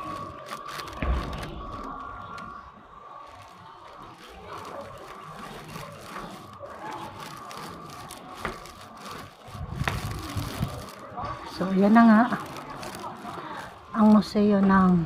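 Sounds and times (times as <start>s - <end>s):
faint hum: 0.0s - 14.0s
faint indistinct voices: 0.0s - 15.0s.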